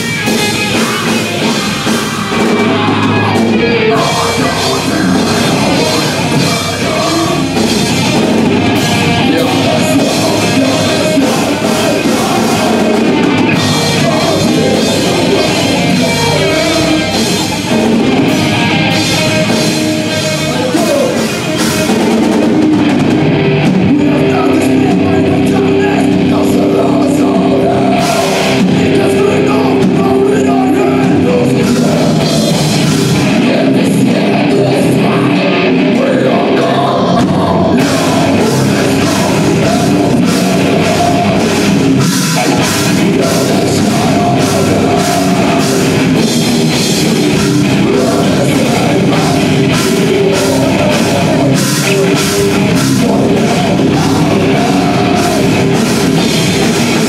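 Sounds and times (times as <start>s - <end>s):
distorted electric guitars: 0.0s - 57.0s
drum kit: 0.0s - 57.0s
harsh vocals: 0.0s - 57.0s.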